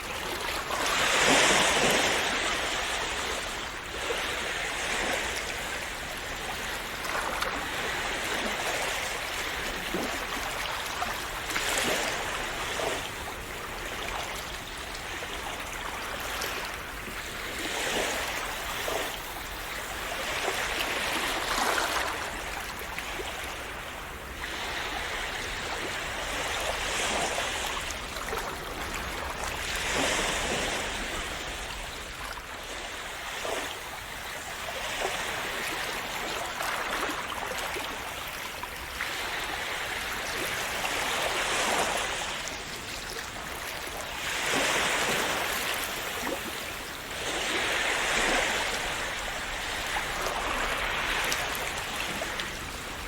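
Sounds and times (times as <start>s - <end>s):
sea waves washing in: 0.0s - 53.0s.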